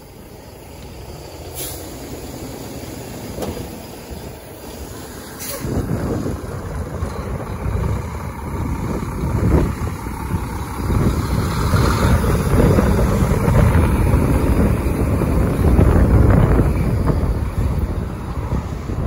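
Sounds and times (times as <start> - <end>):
wind buffeting microphone: 3.2 - 19.0.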